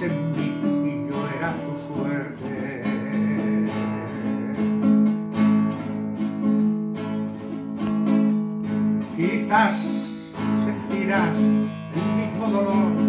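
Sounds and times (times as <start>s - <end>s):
classical guitar strumming chords: 0.0s - 13.0s.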